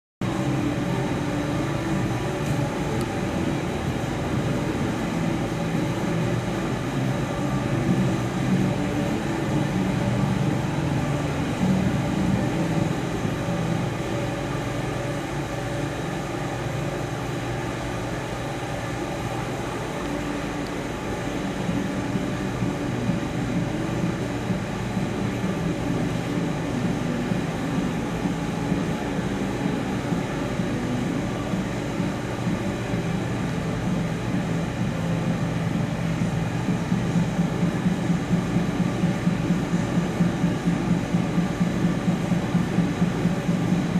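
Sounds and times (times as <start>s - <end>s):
faint constant hum: 0.2s - 43.9s.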